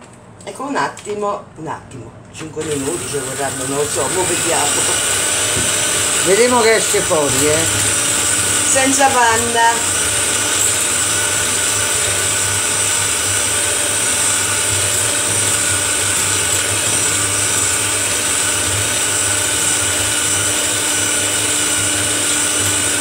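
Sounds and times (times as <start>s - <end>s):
electric hand mixer whisking: 2.6s - 23.0s.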